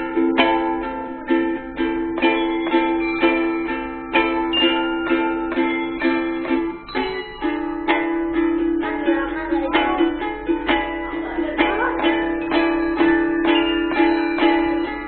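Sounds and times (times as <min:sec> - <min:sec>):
handbells ringing sustained notes: 0:00.0 - 0:15.0
ukuleles strummed: 0:00.0 - 0:15.0.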